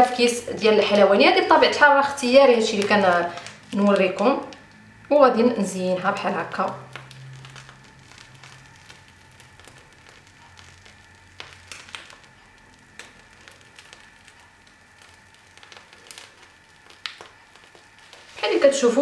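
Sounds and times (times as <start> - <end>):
piping bag crackling: 0.0 - 19.0
low hum: 0.4 - 19.0.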